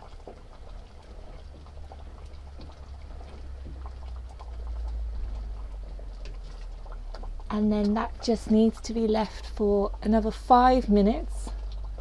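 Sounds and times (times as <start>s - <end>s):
wooden spoon stirring soup: 0.0s - 12.0s.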